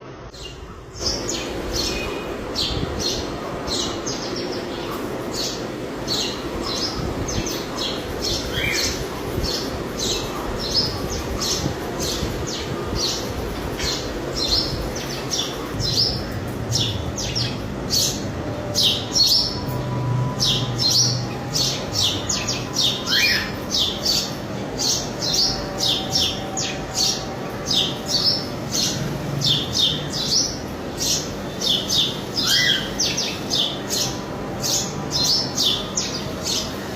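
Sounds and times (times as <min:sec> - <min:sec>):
sparrow chirping: 0:00.3 - 0:36.8.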